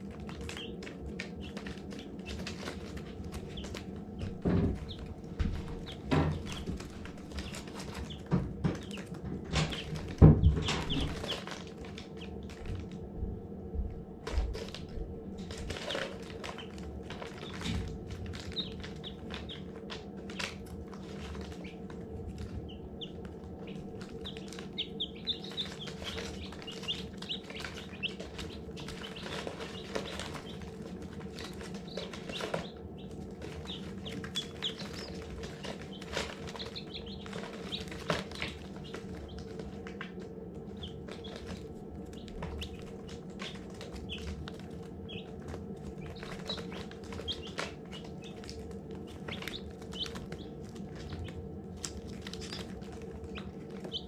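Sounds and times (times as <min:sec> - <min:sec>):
chicks peeping: 0:00.0 - 0:54.0
steady low hum: 0:00.0 - 0:54.0.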